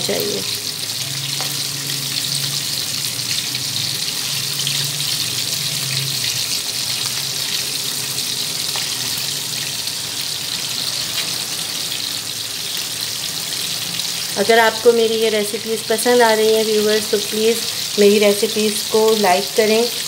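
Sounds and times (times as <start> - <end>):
oil sizzling while deep-frying: 0.0 - 20.0.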